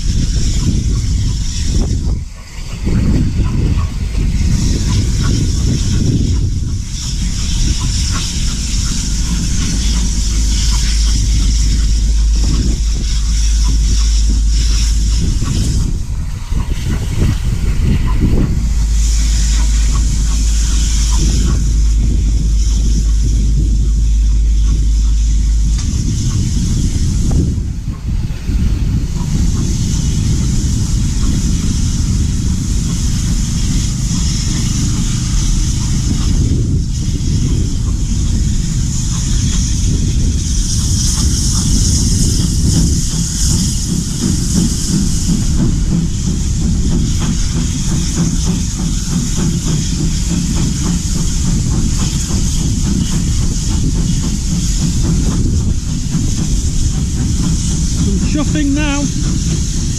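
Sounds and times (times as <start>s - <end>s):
hiss: 0.0s - 59.9s
train carriage rumbling: 0.0s - 59.9s.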